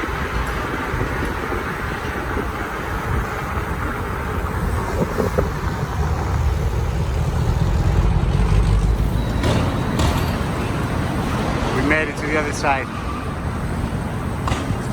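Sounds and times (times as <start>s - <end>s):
passing traffic rumble: 0.0s - 14.9s
wind buffeting microphone: 0.0s - 14.9s.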